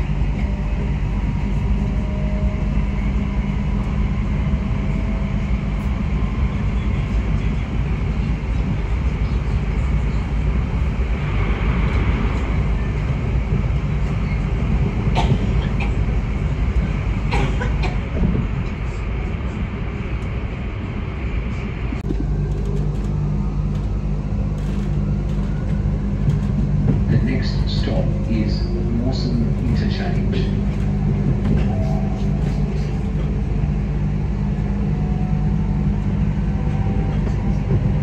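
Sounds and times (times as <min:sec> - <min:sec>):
train rumbling along track: 0:00.0 - 0:38.0.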